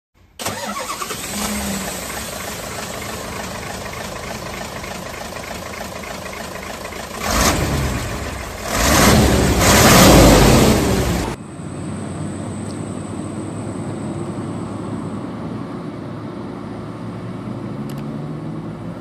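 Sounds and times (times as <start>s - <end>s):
truck diesel engine running: 0.4s - 16.6s.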